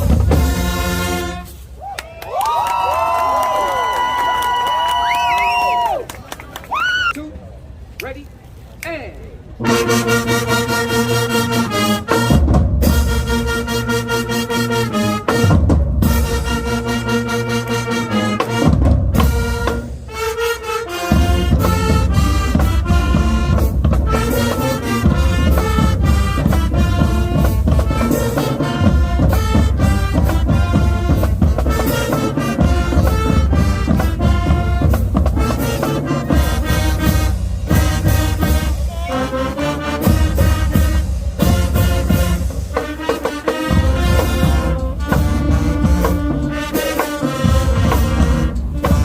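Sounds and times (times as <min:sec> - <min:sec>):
low drums: 0:00.0 - 0:01.9, 0:09.3 - 0:49.0
marching band brass: 0:00.0 - 0:06.0, 0:09.4 - 0:49.0.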